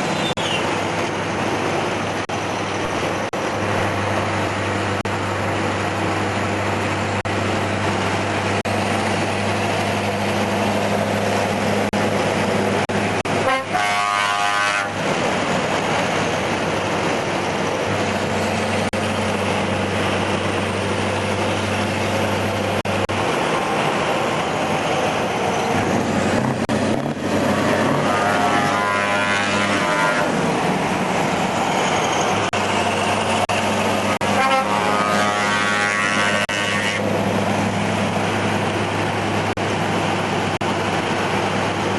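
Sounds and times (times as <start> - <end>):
diesel truck engine droning: 0.0 - 41.9.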